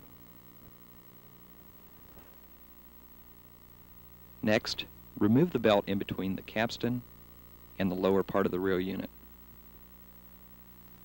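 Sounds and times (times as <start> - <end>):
faint electrical hum with hiss: 0.0 - 11.0.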